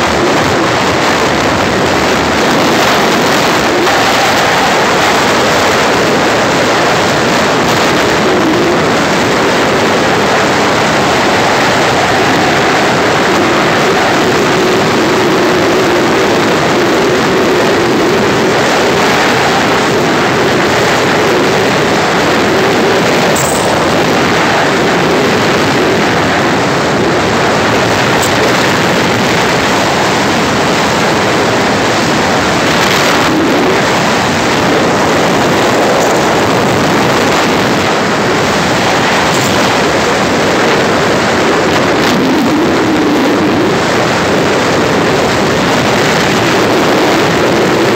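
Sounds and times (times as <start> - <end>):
engine hum: 0.0 - 47.9
road noise: 0.0 - 47.9
wind rushing: 0.0 - 47.9.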